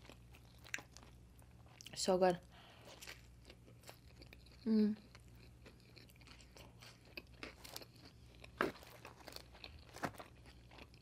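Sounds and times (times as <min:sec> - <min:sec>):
chewing pizza crust: 0:00.0 - 0:02.1, 0:02.7 - 0:11.0.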